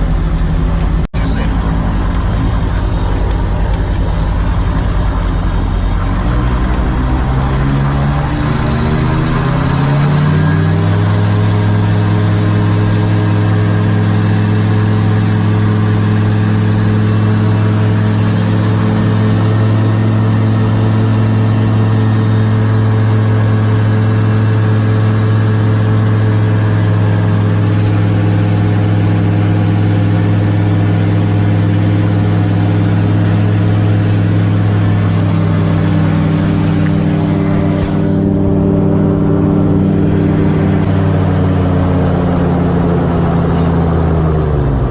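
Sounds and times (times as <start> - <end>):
propeller aircraft engine running: 0.0 - 44.9.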